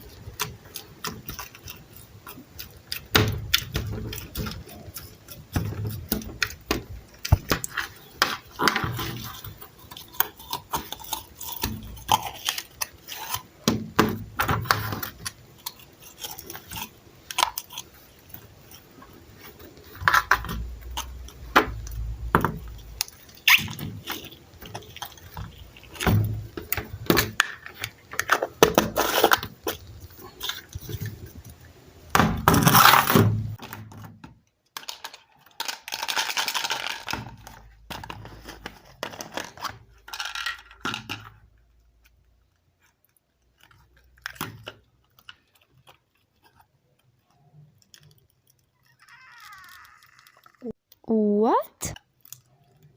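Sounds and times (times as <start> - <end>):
slime crackling and squishing: 0.0 - 33.6, 41.0 - 52.9.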